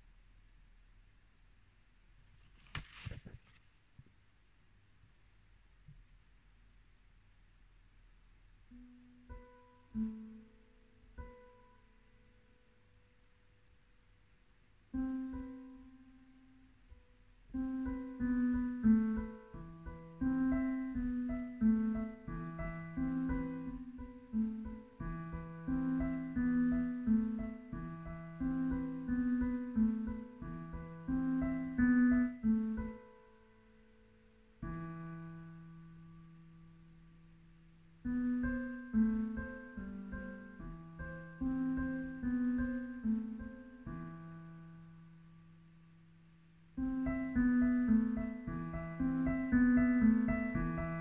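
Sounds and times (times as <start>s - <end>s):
slow piano chords: 8.4s - 51.0s.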